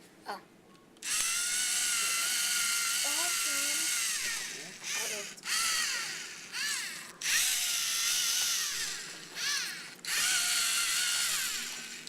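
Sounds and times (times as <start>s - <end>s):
electric motors whining: 1.0s - 12.0s.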